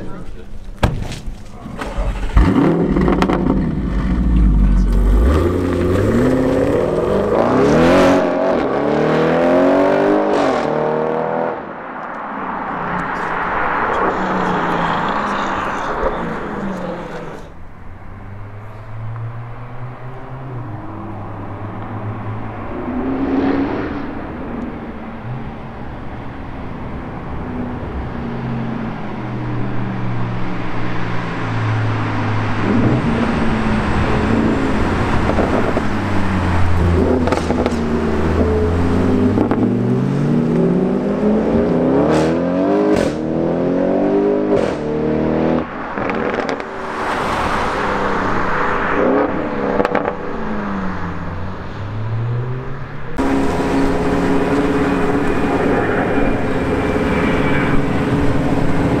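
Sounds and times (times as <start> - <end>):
car engine revving: 1.4 - 25.9, 26.6 - 59.0.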